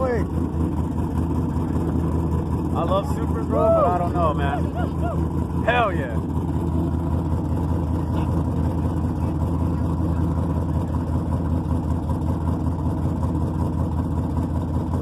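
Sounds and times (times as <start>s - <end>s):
engines idling: 0.0s - 15.0s.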